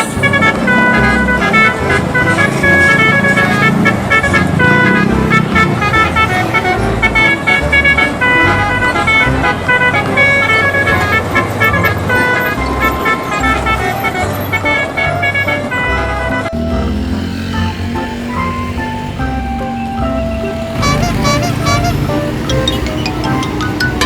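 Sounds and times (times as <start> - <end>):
bus musical horn tune: 0.0 - 24.0.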